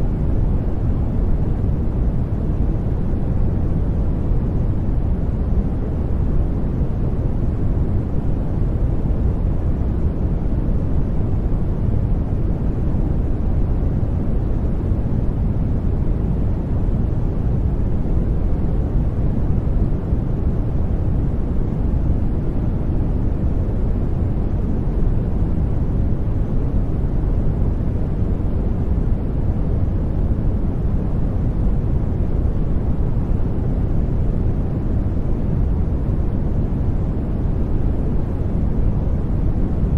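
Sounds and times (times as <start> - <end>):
deep rumbling brown noise: 0.0 - 39.9.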